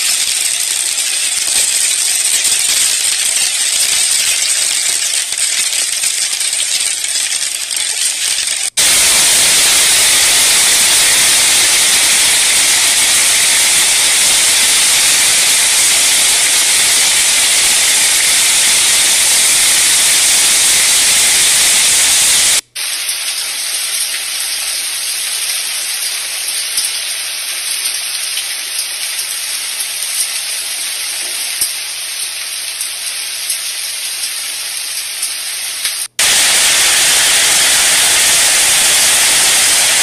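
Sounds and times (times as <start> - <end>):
hail and rain pelting: 0.0 - 40.0
hailstones ticking: 0.0 - 40.0.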